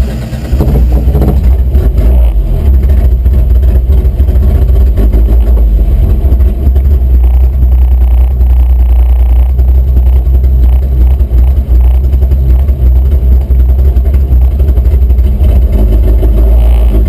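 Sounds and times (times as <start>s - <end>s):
truck engine deep rumble: 0.0s - 17.0s.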